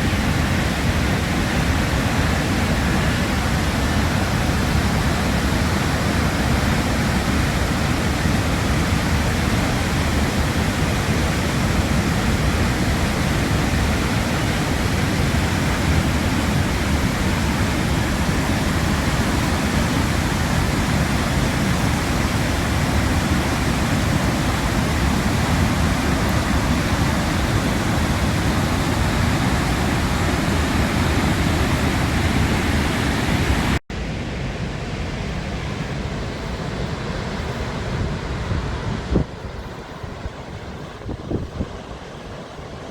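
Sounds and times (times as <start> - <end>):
heavy rush of falling water: 0.0 - 42.9.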